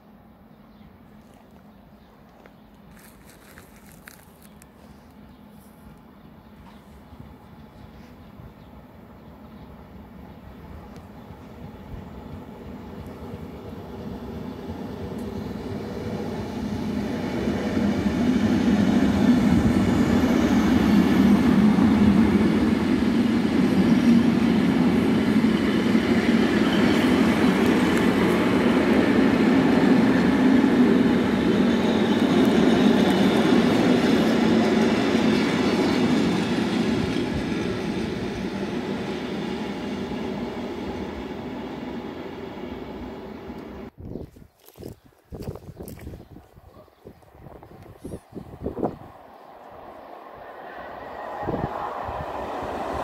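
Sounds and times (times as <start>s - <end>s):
train rumbling over track: 1.7s - 44.0s, 46.3s - 53.0s.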